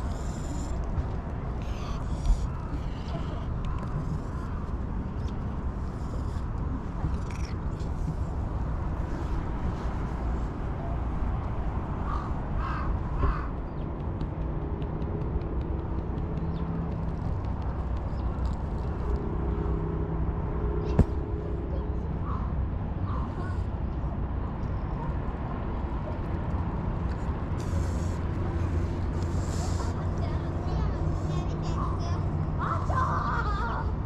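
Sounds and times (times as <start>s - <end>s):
outdoor background rumble: 0.0s - 34.0s.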